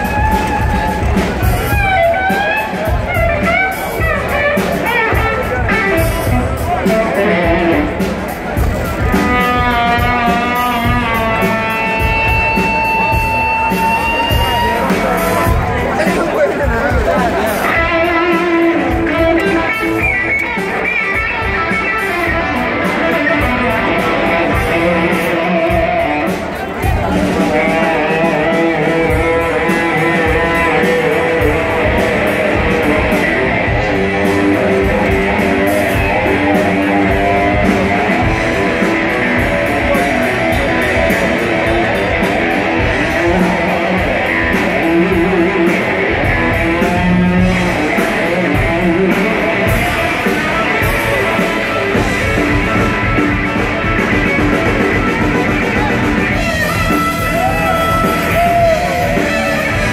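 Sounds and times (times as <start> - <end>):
bass guitar: 0.0 - 59.9
drums: 0.0 - 59.9
electric guitar lead notes: 0.0 - 59.9.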